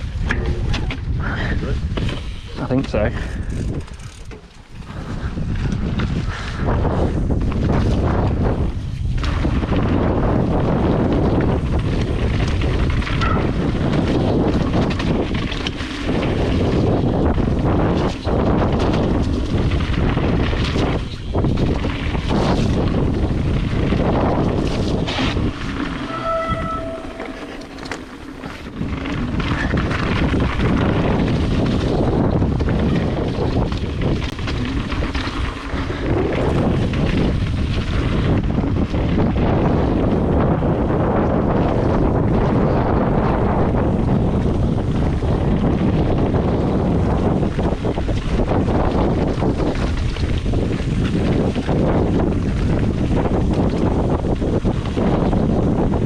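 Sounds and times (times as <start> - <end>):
bike clicks and rattles: 0.0 - 26.2, 27.0 - 56.0
tyres rumbling on trail: 0.0 - 56.0
wind buffeting microphone: 0.0 - 56.0.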